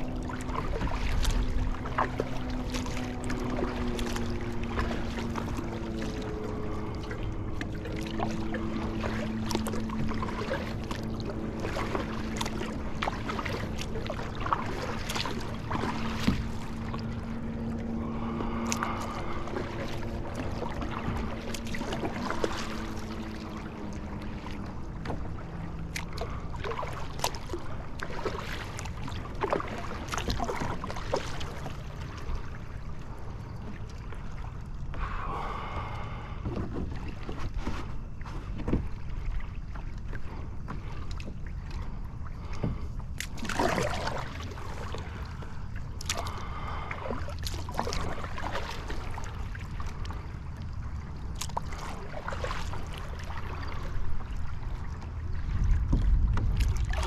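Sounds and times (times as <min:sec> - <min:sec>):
steady low hum: 0:00.0 - 0:57.0
water lapping against hull: 0:00.0 - 0:57.0.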